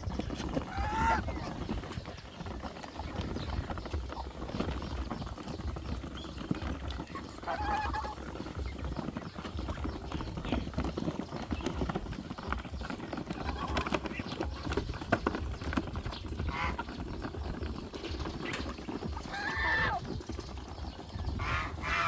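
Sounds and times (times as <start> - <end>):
geese and ducks calling: 0.0 - 22.0.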